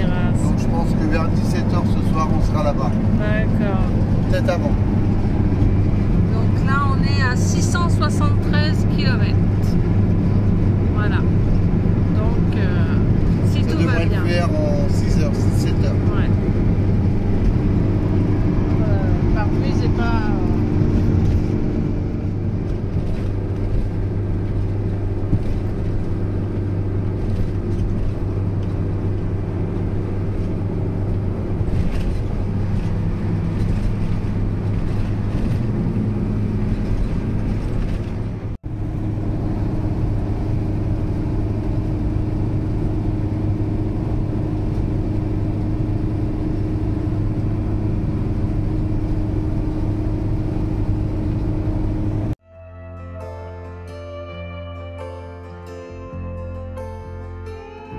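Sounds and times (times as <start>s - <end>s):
engine and road noise in cab: 0.0s - 57.9s.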